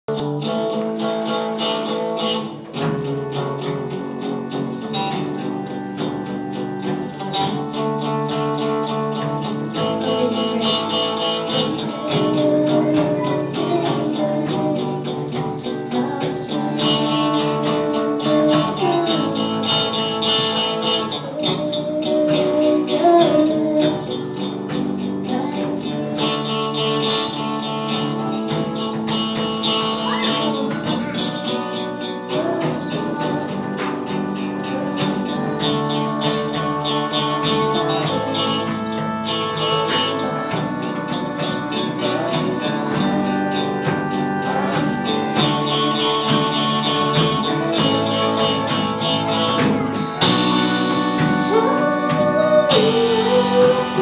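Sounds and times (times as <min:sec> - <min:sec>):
bass guitar: 0:00.0 - 0:54.0
strummed electric guitars: 0:00.0 - 0:54.0
drum kit steady beat: 0:00.1 - 0:54.0.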